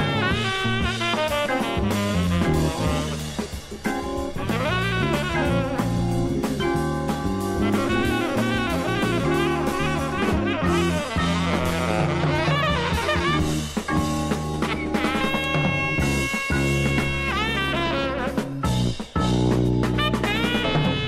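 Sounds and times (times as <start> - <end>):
jazz band music: 0.0 - 21.0.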